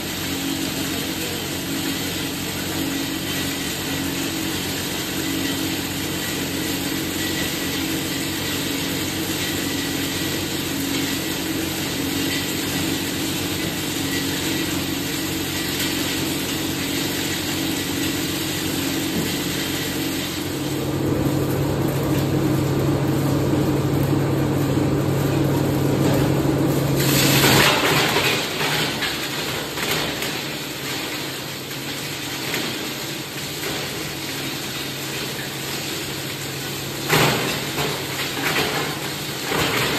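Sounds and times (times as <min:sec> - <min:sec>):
plastic grinder running: 0:00.0 - 0:21.3, 0:24.9 - 0:39.9.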